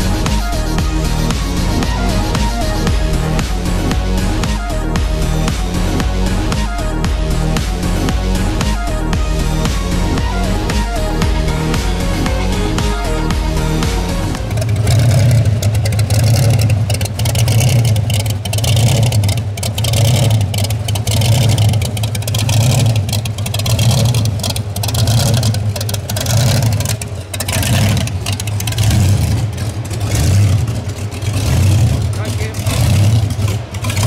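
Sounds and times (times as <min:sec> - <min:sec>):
v-eight engine deep rumble: 0:00.0 - 0:34.0.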